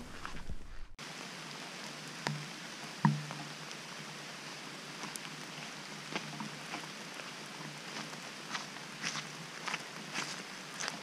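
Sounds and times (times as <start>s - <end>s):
rain falling in forest: 0.0s - 11.0s.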